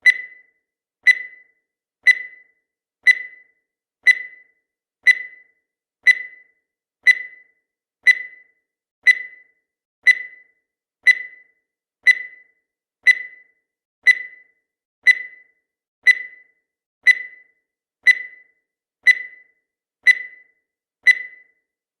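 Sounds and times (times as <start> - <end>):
countdown timer ticking: 0.0 - 21.6.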